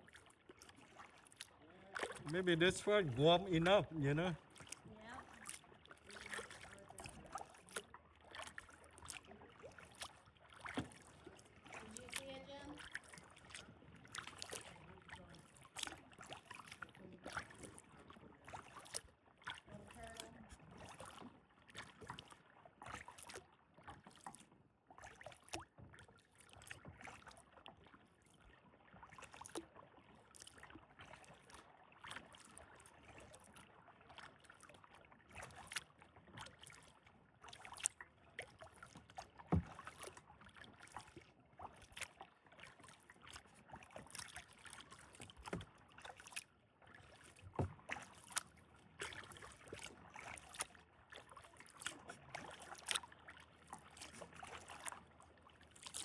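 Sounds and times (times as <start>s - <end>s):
paddle splashing water: 0.0s - 56.0s.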